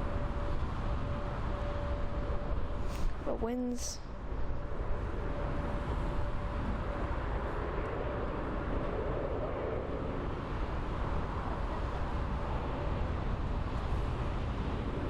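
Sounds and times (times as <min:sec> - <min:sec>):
faint high whine: 0:00.0 - 0:15.0
jet engines droning: 0:00.0 - 0:15.0.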